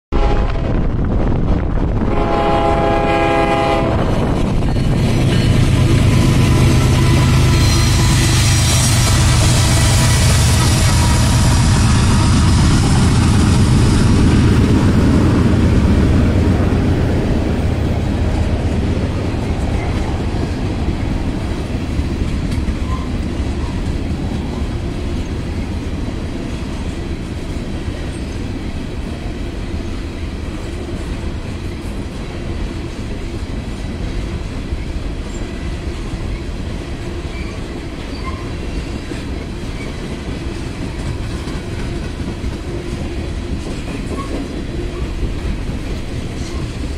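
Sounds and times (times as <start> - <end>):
diesel locomotive rumble: 0.1 - 46.9
train wheels clattering on rails: 3.6 - 46.9.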